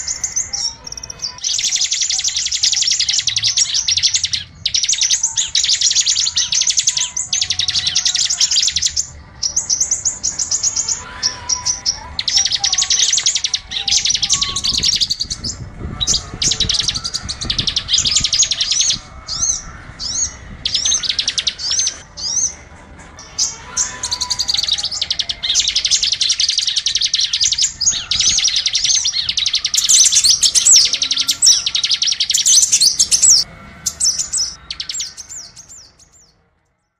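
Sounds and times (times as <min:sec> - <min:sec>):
songbirds chirping and trilling: 0:00.0 - 0:36.9.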